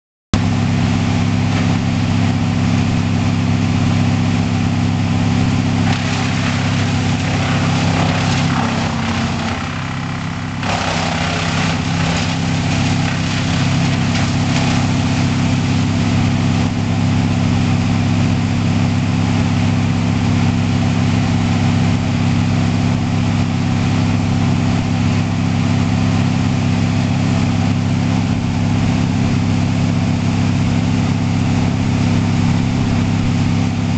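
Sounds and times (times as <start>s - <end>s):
wood chipper engine running: 0.4s - 33.9s.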